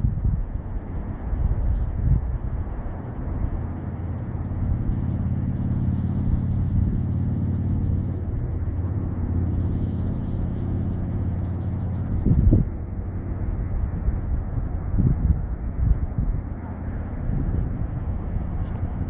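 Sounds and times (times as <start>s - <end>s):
low rumble outdoor noise: 0.0s - 19.0s.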